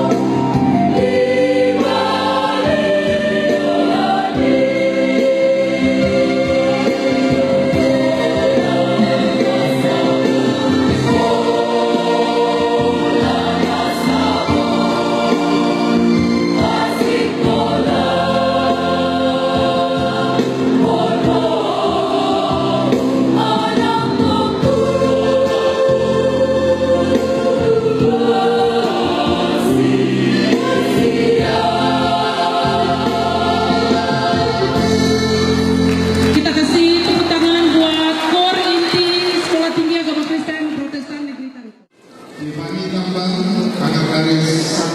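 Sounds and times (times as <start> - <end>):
choir singing in harmony: 0.0 - 39.5.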